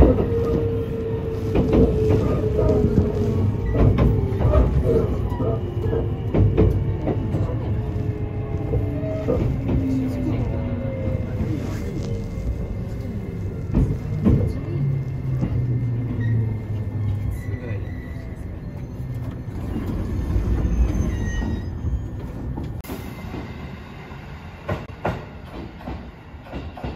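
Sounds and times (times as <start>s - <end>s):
train wheel and rail noise: 0.0s - 26.9s.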